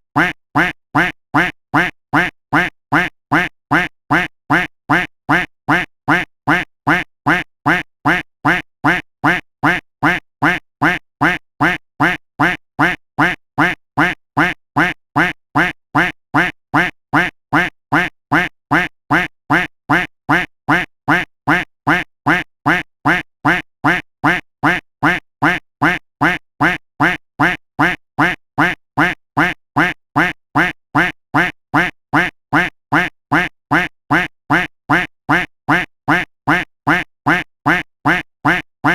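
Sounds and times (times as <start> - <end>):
duck quacking: 0.1 - 38.9.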